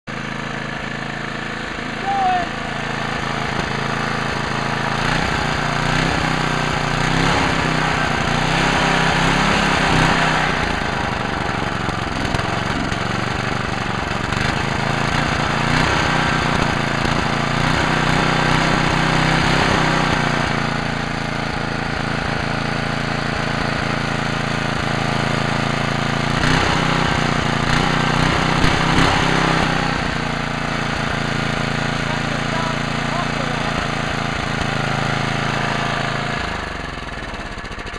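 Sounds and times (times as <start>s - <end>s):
snowblower engine running: 0.1s - 37.9s.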